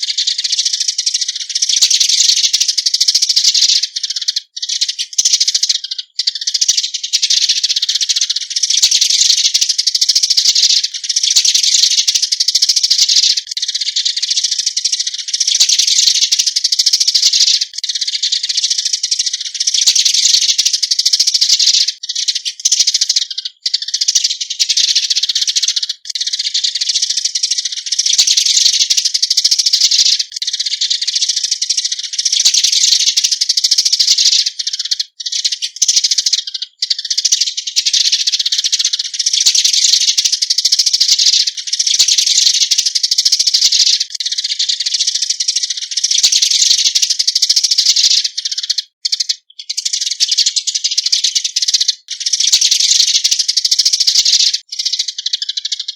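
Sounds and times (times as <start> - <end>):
sparrows chirping: 0.0 - 55.9.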